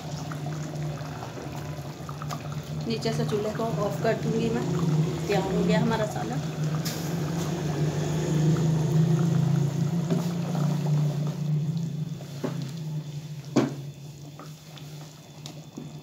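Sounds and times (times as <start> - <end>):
curry bubbling in a pot: 0.0 - 16.0.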